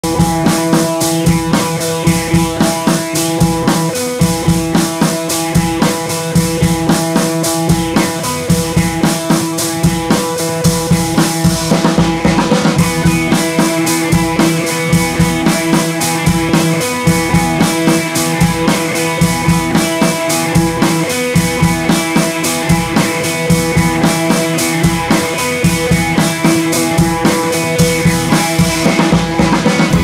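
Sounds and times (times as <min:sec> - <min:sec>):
music with drum beat and guitar: 0:00.0 - 0:30.0.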